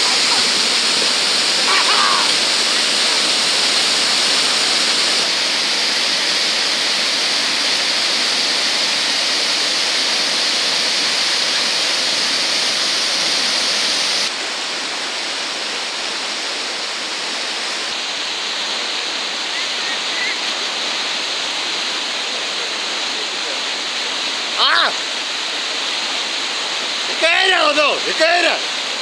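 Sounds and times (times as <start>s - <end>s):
white water rushing: 0.0s - 29.0s.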